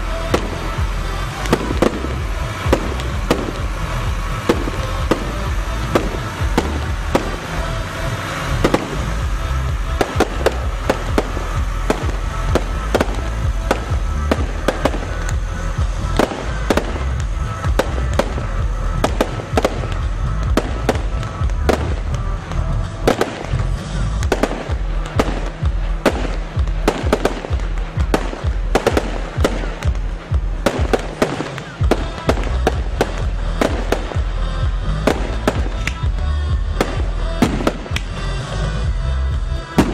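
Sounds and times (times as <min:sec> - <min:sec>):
fireworks bangs and crackles: 0:00.0 - 0:39.9
loud music: 0:00.0 - 0:39.9.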